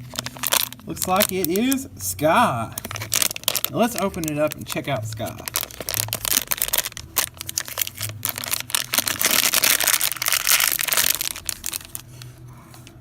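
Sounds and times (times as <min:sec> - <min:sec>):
plastic bag crinkling and tearing: 0:00.0 - 0:01.9, 0:02.7 - 0:12.9.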